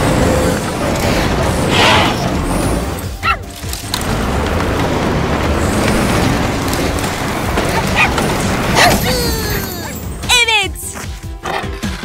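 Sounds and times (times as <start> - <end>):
cartoon bulldozer rumble: 0.0 - 10.2.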